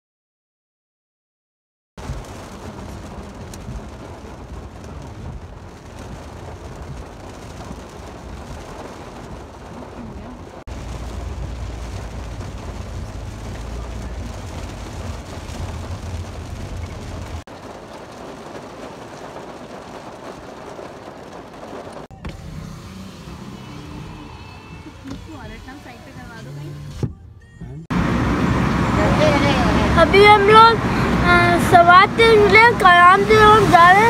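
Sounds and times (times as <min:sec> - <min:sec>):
rain on windshield: 0:02.0 - 0:27.0, 0:27.9 - 0:34.0
car road and engine noise: 0:02.0 - 0:34.0.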